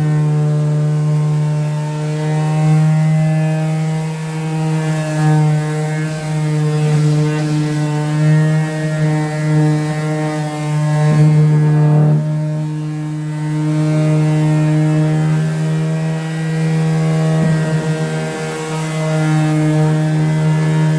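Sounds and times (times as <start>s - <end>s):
electric sander motor humming: 0.0s - 20.9s.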